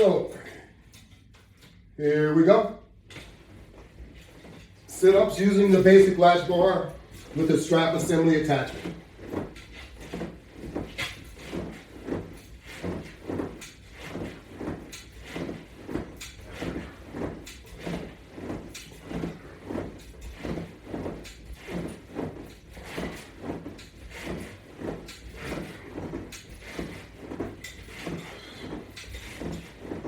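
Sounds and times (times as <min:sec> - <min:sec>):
resistance band rubbing and clicking: 0:03.1 - 0:30.0.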